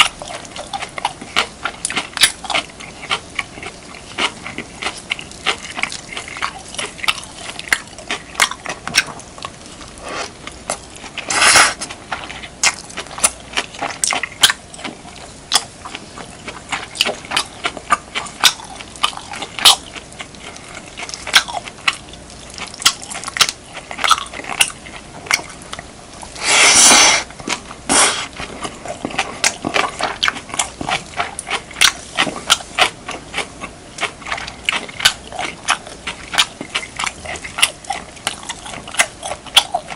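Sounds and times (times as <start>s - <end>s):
chewing and mouth clicks: 0.0s - 39.9s.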